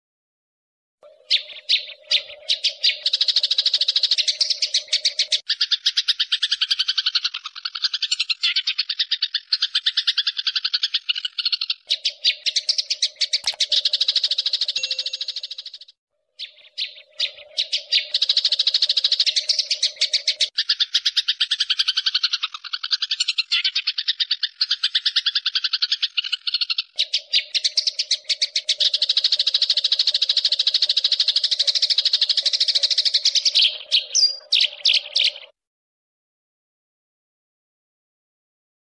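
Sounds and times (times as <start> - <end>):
sparrow chirping: 1.0 - 35.5.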